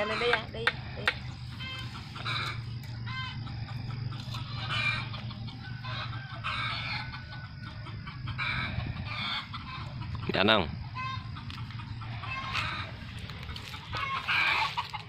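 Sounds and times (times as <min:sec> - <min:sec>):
chickens clucking: 0:00.0 - 0:15.0
steady low hum: 0:00.0 - 0:15.0.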